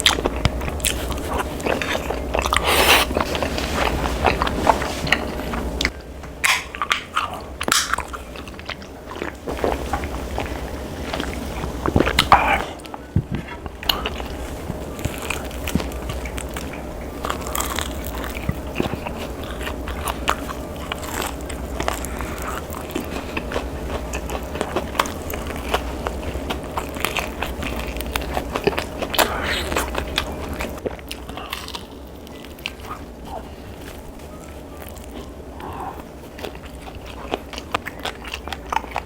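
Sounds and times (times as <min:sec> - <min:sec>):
chewing crunchy food: 0:00.0 - 0:39.0.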